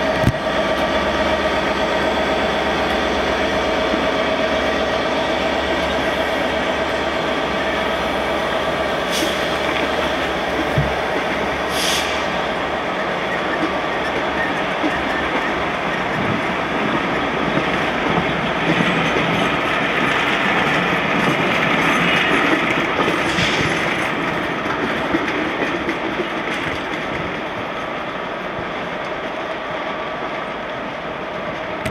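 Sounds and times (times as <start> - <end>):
train wheels clattering over track: 0.0 - 31.9.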